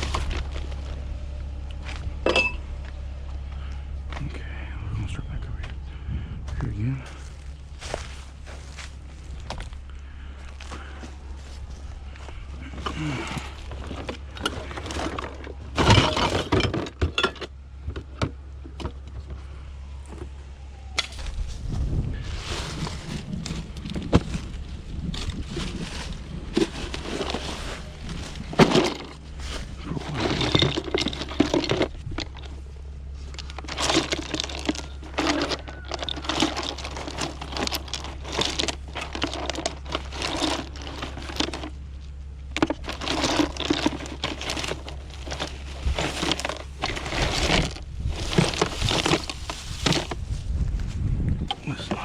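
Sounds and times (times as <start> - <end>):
rummaging through household items: 0.0 - 3.8, 7.0 - 52.0
steady low hum: 0.0 - 52.0.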